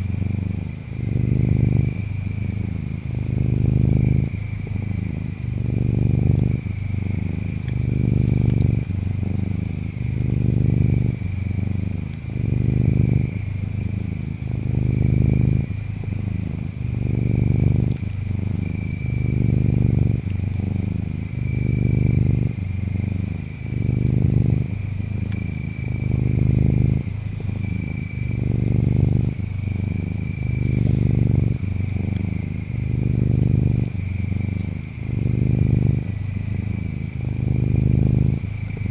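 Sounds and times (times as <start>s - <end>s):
cat purring: 0.0s - 38.9s
insects chirping: 0.0s - 38.9s.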